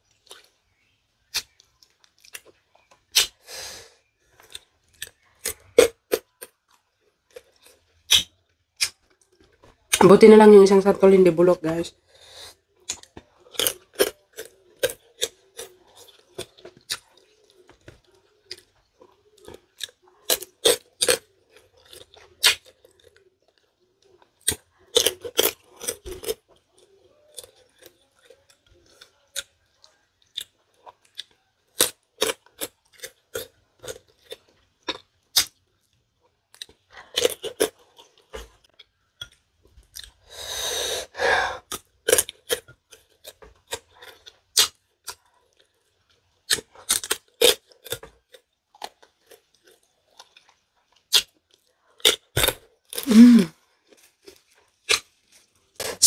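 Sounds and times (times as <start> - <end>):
chewing crunchy pods: 0.0 - 10.9, 12.0 - 40.4, 41.1 - 56.0.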